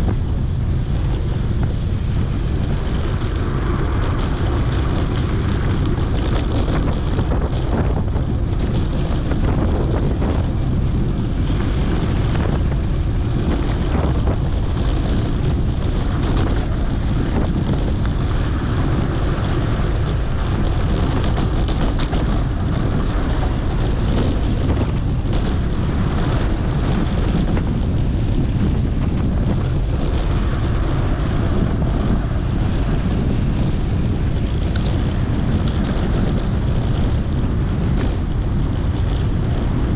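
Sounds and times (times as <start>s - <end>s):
bike tyres rolling on dirt: 0.0s - 39.9s
wind rush on microphone: 0.0s - 39.9s.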